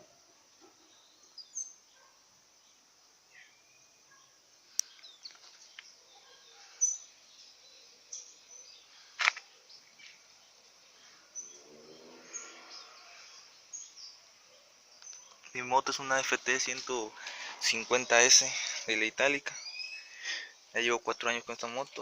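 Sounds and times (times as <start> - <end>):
bird chirps: 0.6 - 22.0.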